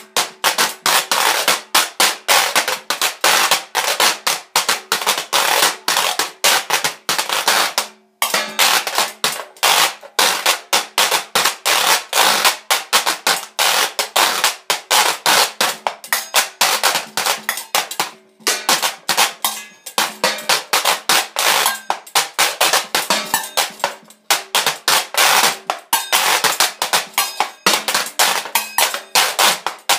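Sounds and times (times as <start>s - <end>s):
washboard percussion scraped and struck: 5.0s - 29.9s.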